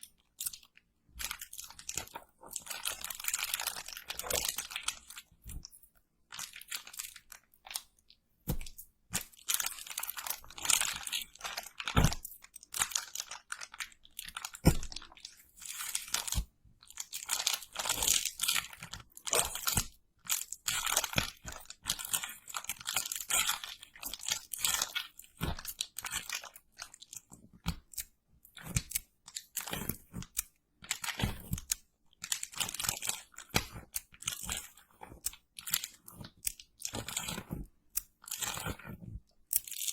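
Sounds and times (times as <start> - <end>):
crunching and crackling: 0.1 - 39.9.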